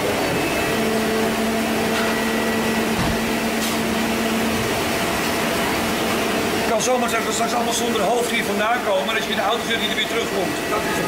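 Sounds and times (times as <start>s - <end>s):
factory machine and ventilation noise: 0.0s - 11.0s.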